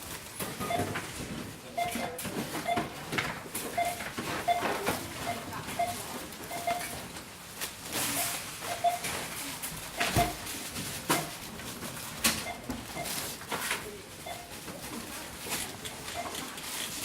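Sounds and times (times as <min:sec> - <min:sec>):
murmur of indistinct activity: 0:00.0 - 0:17.0.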